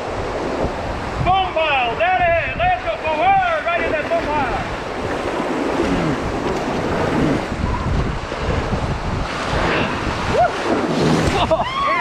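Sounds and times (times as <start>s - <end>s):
whitewater rushing: 0.0s - 12.0s
wind buffeting microphone: 0.0s - 12.0s.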